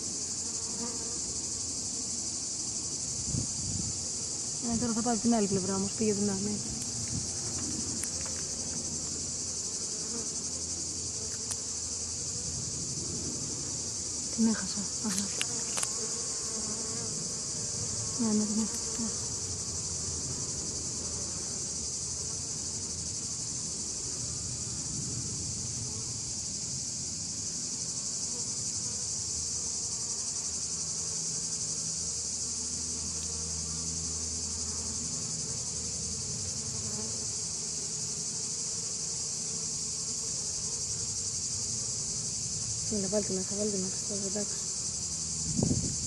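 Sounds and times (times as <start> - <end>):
high-pitched insect chorus: 0.0 - 46.0
honeybees humming: 0.0 - 46.0.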